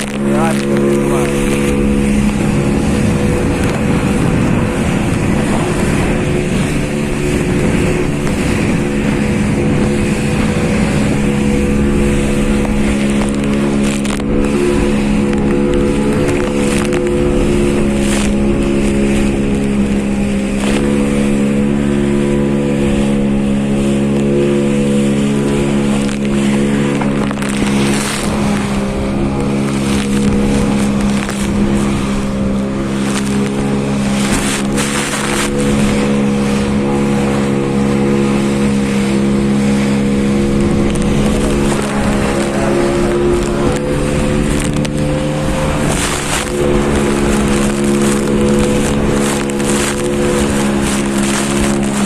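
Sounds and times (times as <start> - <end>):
boat engine running: 0.0 - 52.0
wind buffeting microphone: 0.0 - 52.0.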